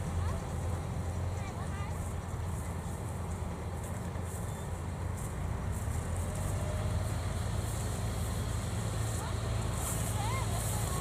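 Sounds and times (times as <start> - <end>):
carrier engine humming: 0.0 - 11.0.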